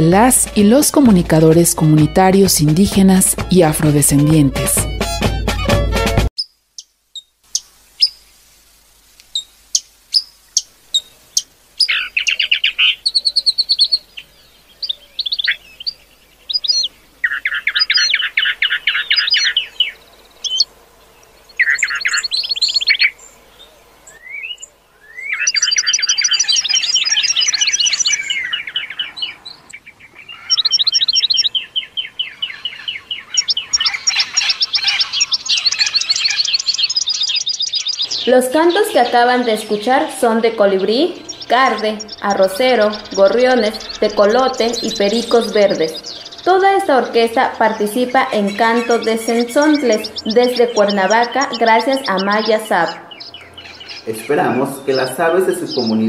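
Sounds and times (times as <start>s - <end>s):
birds calling and singing: 0.0s - 8.3s, 9.2s - 56.0s.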